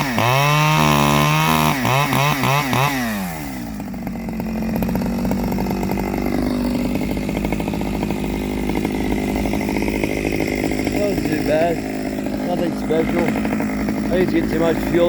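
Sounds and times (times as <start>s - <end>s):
chainsaw revving and idling: 0.0s - 15.0s.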